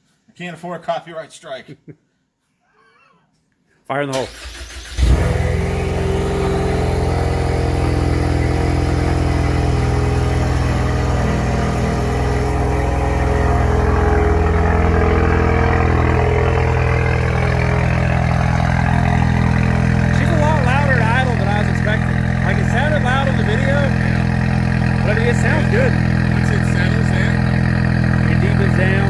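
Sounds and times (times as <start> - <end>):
car engine idling: 4.4 - 29.0.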